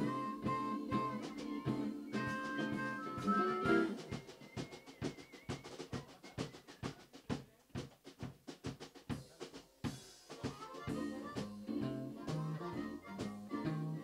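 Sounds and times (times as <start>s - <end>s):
drum kit break: 0.0s - 13.8s.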